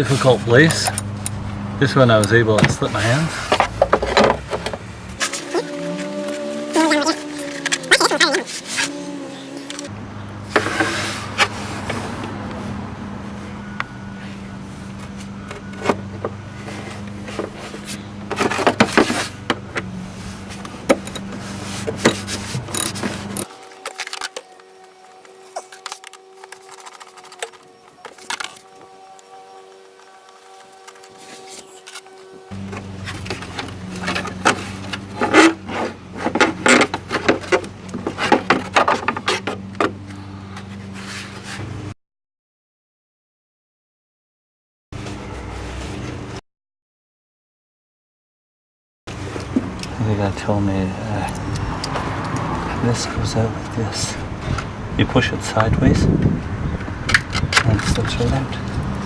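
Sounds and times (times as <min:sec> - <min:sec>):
scrapes and clicks of engine parts: 0:00.0 - 0:12.8, 0:13.5 - 0:41.9, 0:49.1 - 0:59.0.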